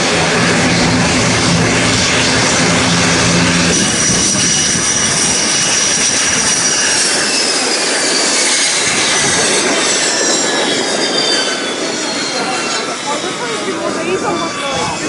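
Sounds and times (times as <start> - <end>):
turboprop engines running: 0.0 - 15.0.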